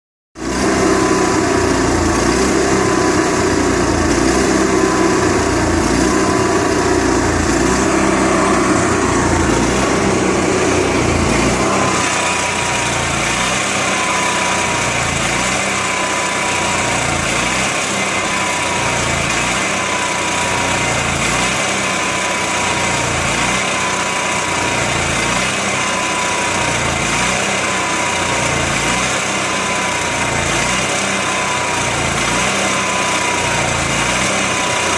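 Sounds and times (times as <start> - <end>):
generator engine idling roughly: 0.4 - 34.9.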